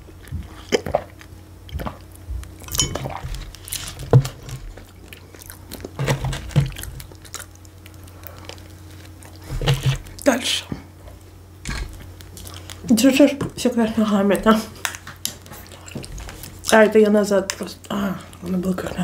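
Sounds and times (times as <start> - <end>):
person chewing food: 0.0 - 12.9, 14.7 - 16.8, 17.5 - 18.7.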